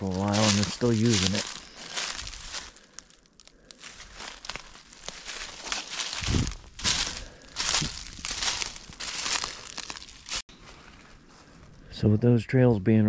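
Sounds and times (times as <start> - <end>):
footsteps crunching dry leaves: 0.0 - 11.8.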